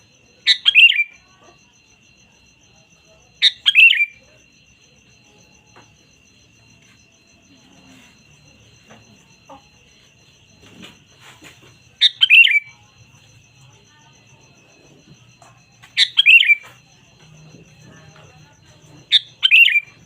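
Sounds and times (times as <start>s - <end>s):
faint steady high tone: 0.0s - 20.0s.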